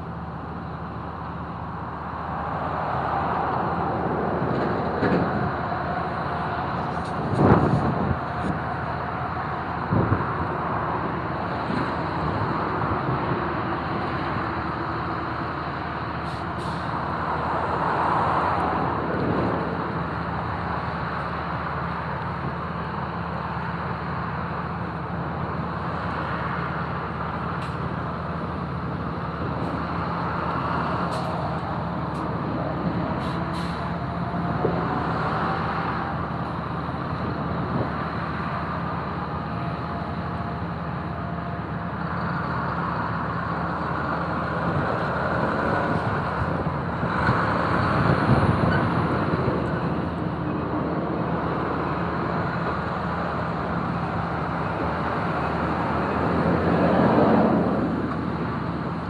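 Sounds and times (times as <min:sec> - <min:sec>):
excavation machinery engines: 0:00.0 - 0:59.0.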